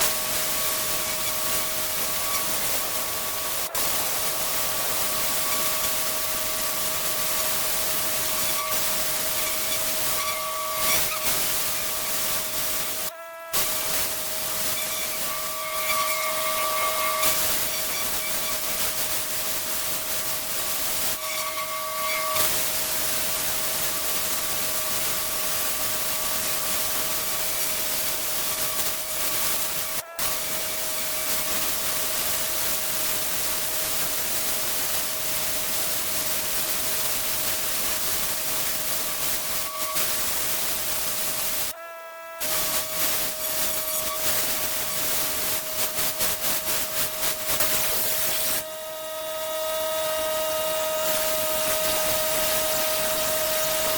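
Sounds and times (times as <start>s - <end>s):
machine whine: 0.0s - 41.8s, 42.4s - 53.9s
pressure washer spraying: 0.0s - 41.8s, 42.4s - 53.9s.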